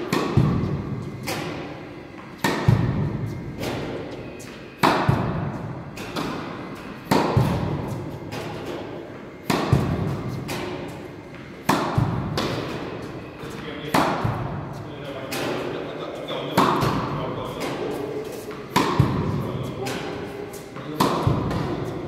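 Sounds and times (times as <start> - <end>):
tennis balls struck with echo: 0.0 - 22.0.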